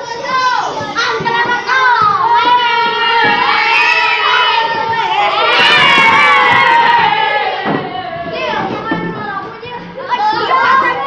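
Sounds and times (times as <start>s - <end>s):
children shouting and cheering: 0.0s - 11.0s.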